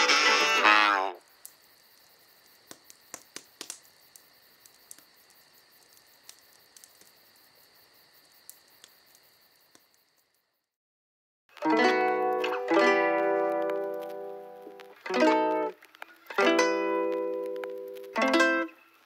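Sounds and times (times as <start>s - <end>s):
flames crackling and popping: 0.0s - 10.8s, 11.5s - 19.0s.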